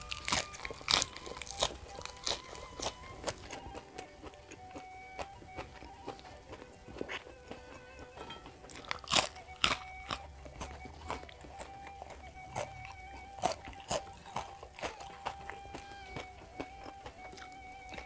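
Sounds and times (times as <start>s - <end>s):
crunchy chewing of food: 0.0s - 18.0s.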